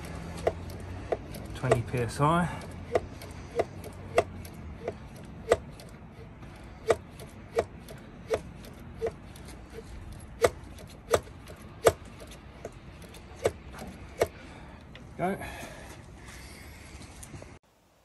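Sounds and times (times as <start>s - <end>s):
hand pump clicking: 0.0s - 15.0s.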